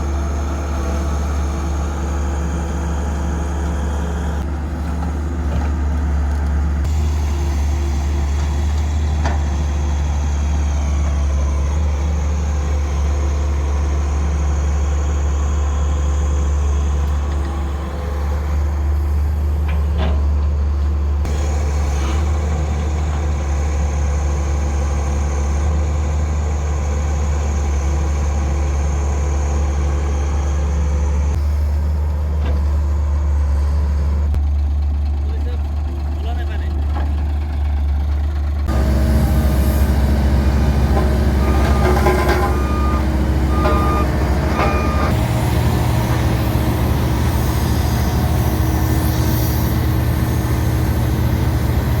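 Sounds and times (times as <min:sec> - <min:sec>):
diesel machinery rumbling: 0:00.0 - 0:52.0.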